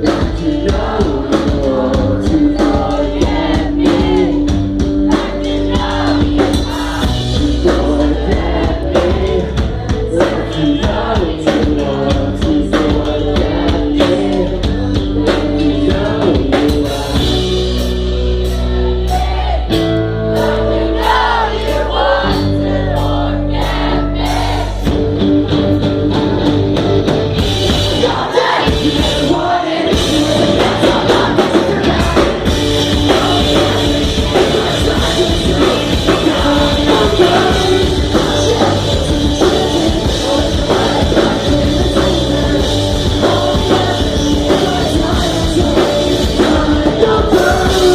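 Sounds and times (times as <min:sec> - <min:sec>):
person singing: 0:00.0 - 0:24.8, 0:27.7 - 0:47.9
drums: 0:00.0 - 0:47.9
live rock band playing: 0:00.0 - 0:47.9.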